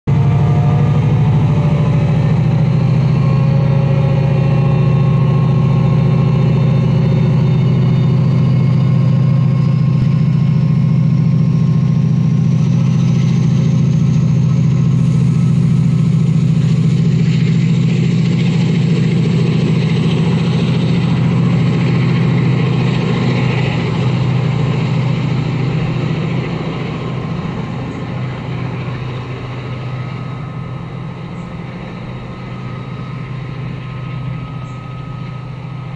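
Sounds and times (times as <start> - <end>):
diesel locomotive engine droning: 0.0 - 35.9
engine whine rising in pitch: 0.1 - 35.9.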